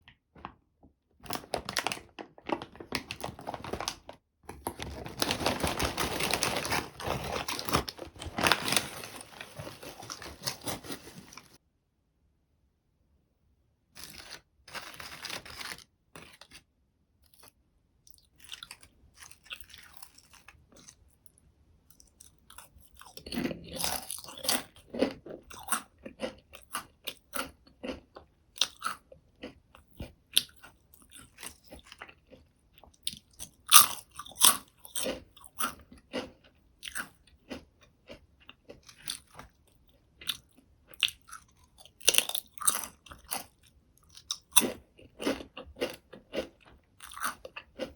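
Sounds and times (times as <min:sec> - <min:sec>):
crunching potato chips: 0:01.2 - 0:11.6, 0:14.0 - 0:16.6, 0:18.1 - 0:21.3, 0:21.9 - 0:47.9.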